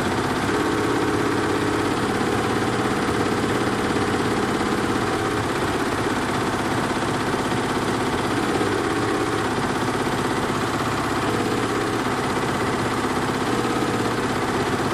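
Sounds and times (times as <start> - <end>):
embroidery machine stitching: 0.0 - 14.9.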